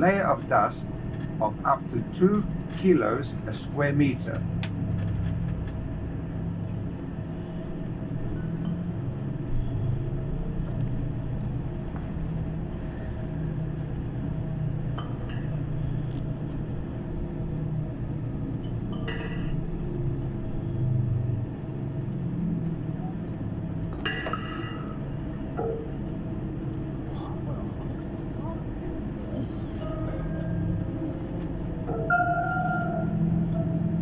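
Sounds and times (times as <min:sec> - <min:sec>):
low vehicle drone: 0:00.0 - 0:34.0.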